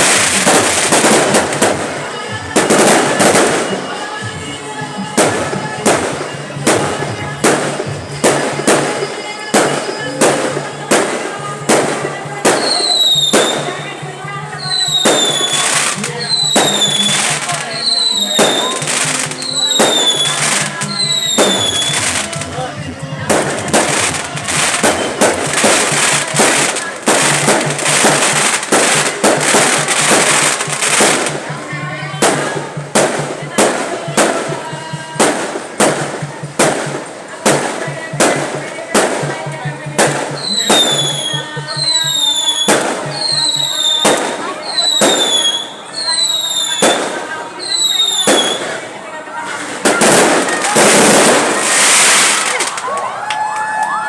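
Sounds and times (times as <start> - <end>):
fireworks bangs: 0.0 - 54.0
music playing: 0.0 - 54.0.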